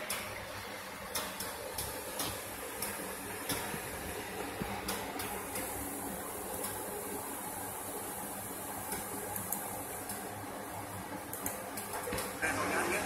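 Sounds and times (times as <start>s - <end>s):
faint room hum and hiss: 0.0s - 13.0s.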